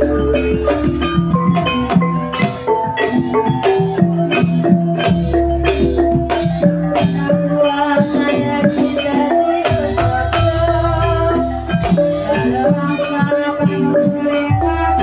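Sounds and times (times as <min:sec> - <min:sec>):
metallophones ringing: 0:00.0 - 0:15.0.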